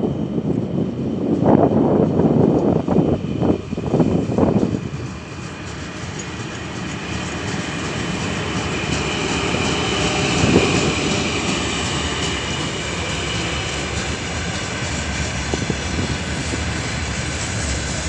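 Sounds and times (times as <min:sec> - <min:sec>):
electric locomotive whine: 0:00.0 - 0:18.0
wind gusts on microphone: 0:00.0 - 0:18.0.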